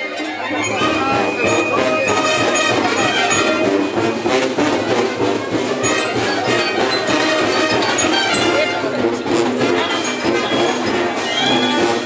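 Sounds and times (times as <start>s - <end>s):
brass band playing: 0.3s - 12.0s.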